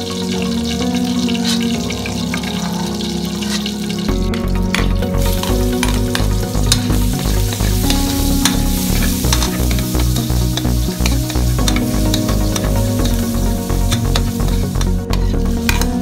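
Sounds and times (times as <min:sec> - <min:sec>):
garlic and onion sizzling in oil: 0:00.0 - 0:16.0.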